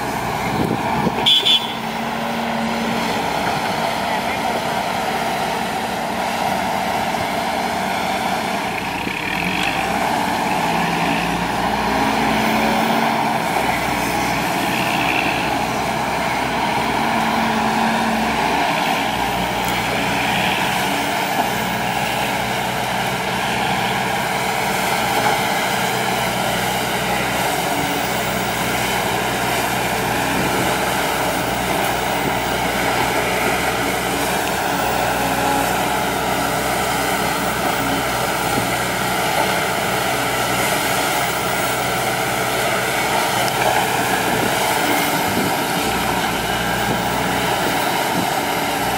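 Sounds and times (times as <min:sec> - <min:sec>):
excavator diesel engine under load: 0:00.0 - 0:48.9.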